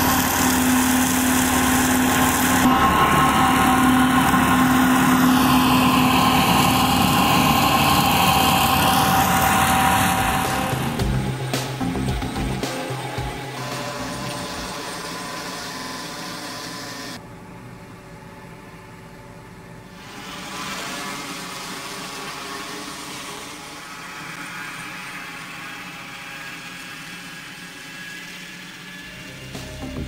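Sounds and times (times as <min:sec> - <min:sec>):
whir of mower blades: 0:00.0 - 0:17.2, 0:19.9 - 0:30.0
mower machinery drone: 0:00.0 - 0:17.3, 0:19.9 - 0:30.0.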